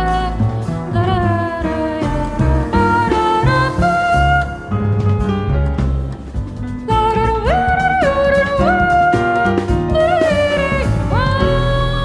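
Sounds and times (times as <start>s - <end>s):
double bass: 0.0s - 12.0s
piano: 0.0s - 12.0s.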